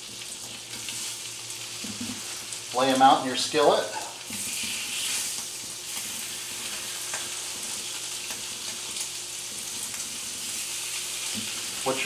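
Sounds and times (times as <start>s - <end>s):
meat sizzling in a skillet: 0.0s - 12.0s.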